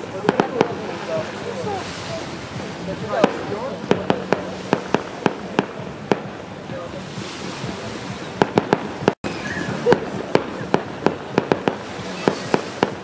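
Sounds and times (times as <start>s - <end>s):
fireworks bursting with sharp bangs: 0.0s - 13.0s
steady background hiss: 0.0s - 13.0s.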